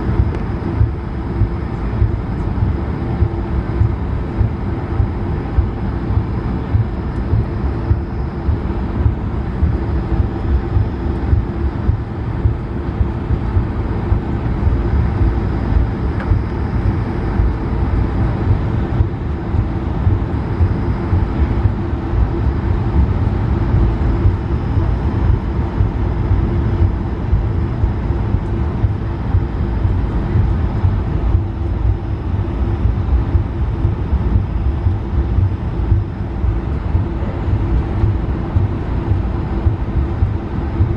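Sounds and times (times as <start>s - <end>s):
aircraft engine hum: 0.0s - 40.9s
low cabin rumble: 0.0s - 40.9s.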